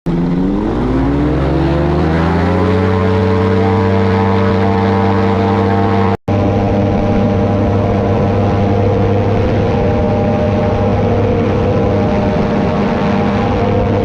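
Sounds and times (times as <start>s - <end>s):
ultralight aircraft engine and propeller: 0.1s - 14.0s.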